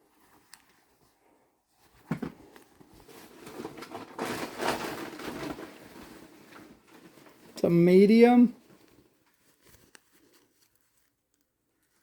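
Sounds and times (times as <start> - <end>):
jeans rustling and crinkling: 0.0 - 12.0.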